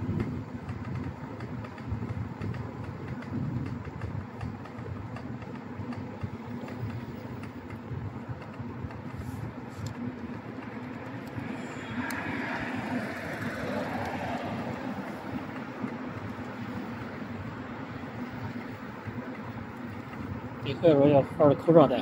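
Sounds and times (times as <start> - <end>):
wind rumble: 0.0 - 21.6
road noise: 0.0 - 22.0.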